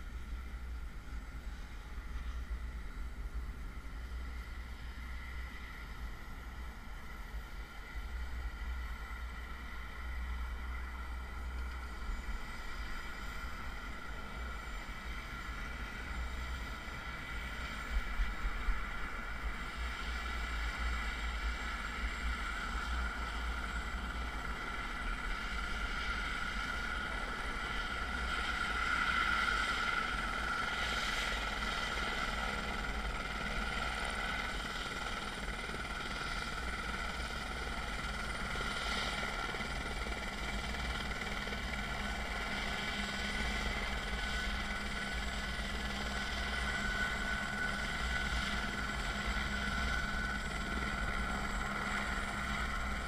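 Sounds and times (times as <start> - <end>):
helicopter turbine whine: 0.0 - 53.0.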